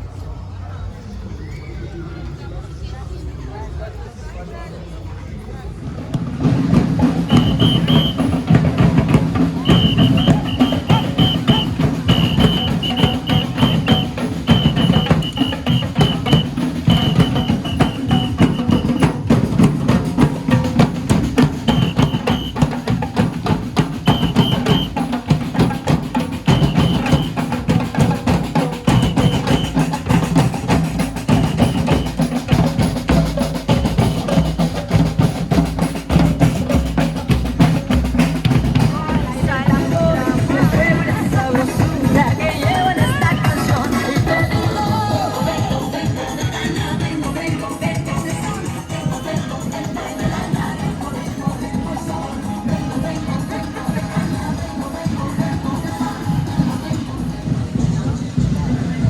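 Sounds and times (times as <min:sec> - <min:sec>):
drum ensemble playing: 0:06.2 - 0:57.0.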